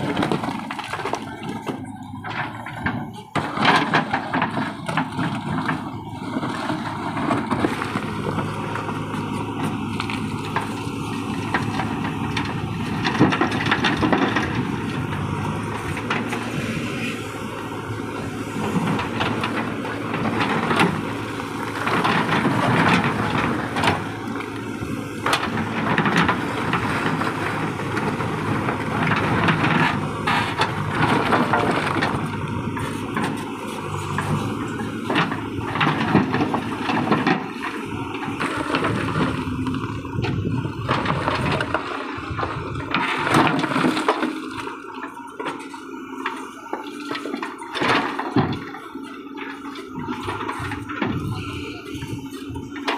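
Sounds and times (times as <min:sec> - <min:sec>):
rocks crunching and clattering: 0:00.0 - 0:16.6, 0:17.9 - 0:52.9
diesel engine under load: 0:00.0 - 0:52.9.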